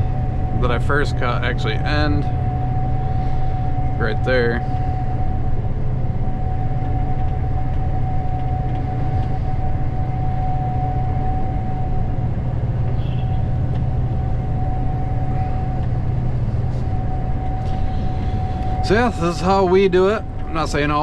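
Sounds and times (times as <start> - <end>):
combine harvester drone: 0.0 - 21.0
high-pitched whine: 0.0 - 21.0.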